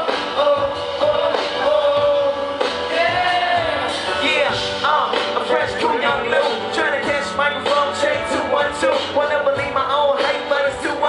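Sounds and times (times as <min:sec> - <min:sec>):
live hip-hop music: 0:00.0 - 0:11.0
man rapping into a microphone: 0:00.0 - 0:11.0.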